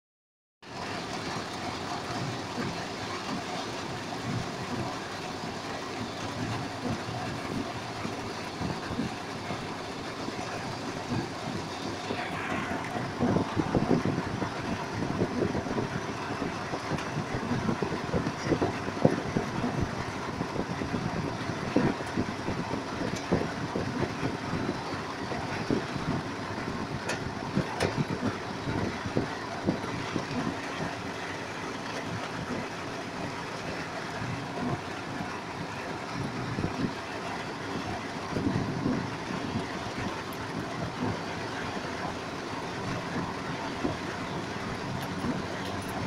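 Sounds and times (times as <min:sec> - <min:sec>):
heavy rain: 0:00.6 - 0:46.0
floodwater rushing: 0:00.7 - 0:46.0.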